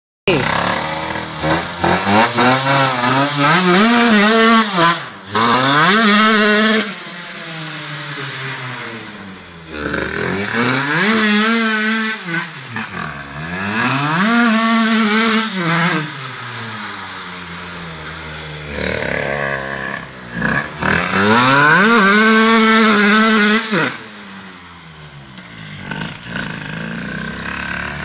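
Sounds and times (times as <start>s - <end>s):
dirt bike engine revving: 0.3s - 28.0s.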